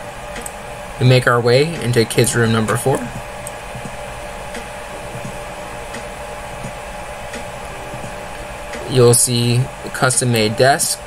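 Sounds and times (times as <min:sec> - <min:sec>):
fan-like hiss: 0:00.0 - 0:11.0
low hum: 0:00.0 - 0:11.0.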